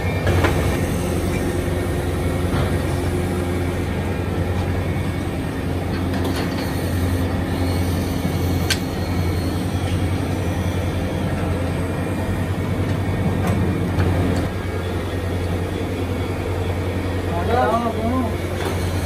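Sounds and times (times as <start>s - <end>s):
lathes and motors rumbling: 0.0s - 19.0s.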